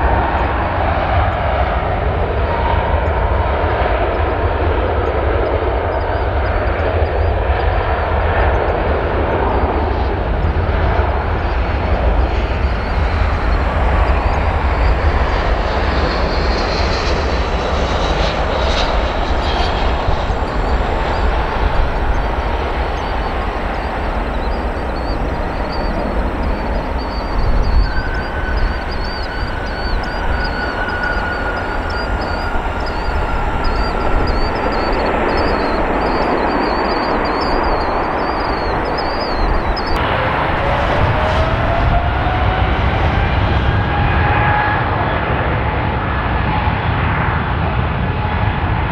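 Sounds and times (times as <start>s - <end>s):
high engine whine: 0.0s - 46.5s
jet engines rumbling: 0.0s - 48.9s.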